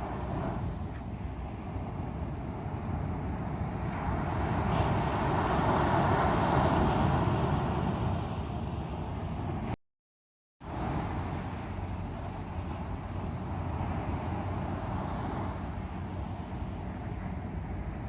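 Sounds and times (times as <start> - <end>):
waves breaking on shore: 0.0 - 9.8, 10.6 - 18.0.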